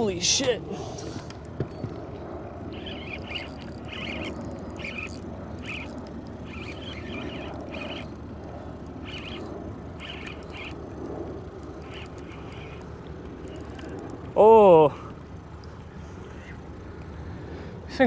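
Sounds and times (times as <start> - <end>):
fishing reel drag buzzing: 0.3 - 14.9.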